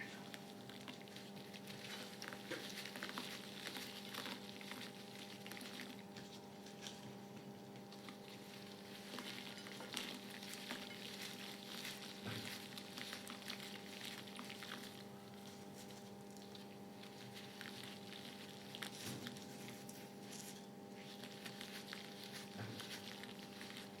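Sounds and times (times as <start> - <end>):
chalk crackling and fizzing in water: 0.0 - 24.0.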